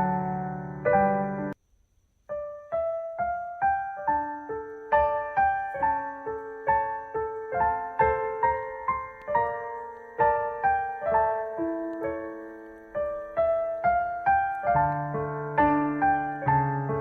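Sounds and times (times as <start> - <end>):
gentle piano music: 0.0 - 1.6, 2.3 - 17.0.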